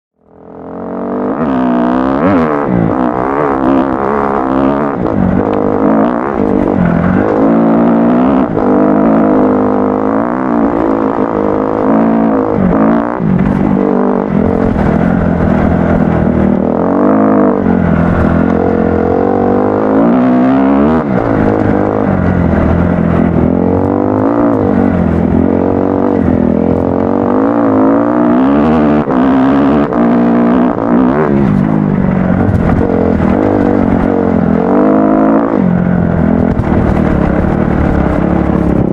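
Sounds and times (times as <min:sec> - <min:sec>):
motocross bike engine revving: 0:00.2 - 0:38.9.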